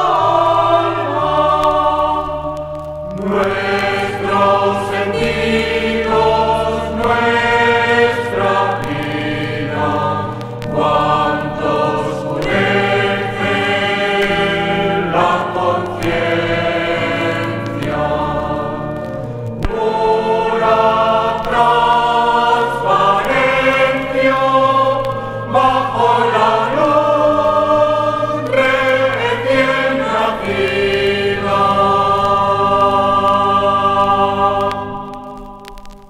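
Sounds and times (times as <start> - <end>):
choir singing a hymn: 0.0 - 35.8.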